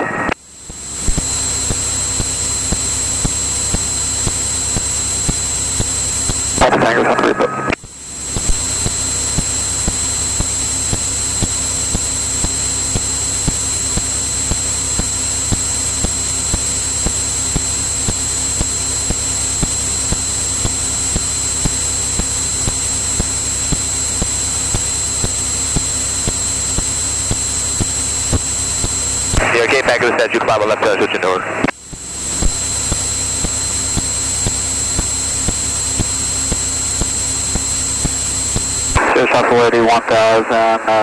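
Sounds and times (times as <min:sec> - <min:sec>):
airplane engine drone: 0:00.0 - 0:41.0
high-pitched whine: 0:00.0 - 0:41.0.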